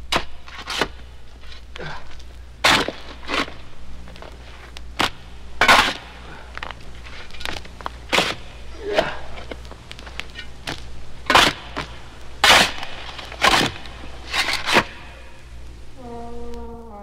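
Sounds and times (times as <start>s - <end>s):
low steady hum: 0.0s - 17.0s
scraping dragging footsteps: 0.4s - 15.4s.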